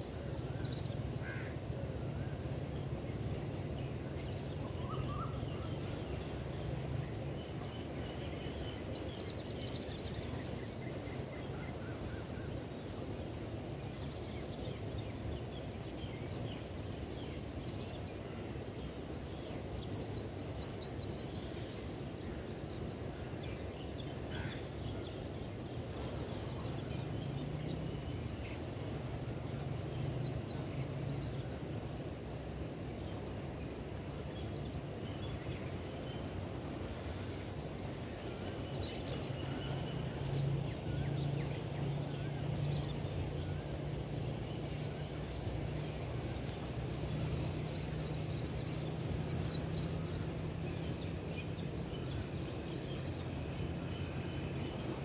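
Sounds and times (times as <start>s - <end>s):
birds chirping: 2.6s - 55.0s.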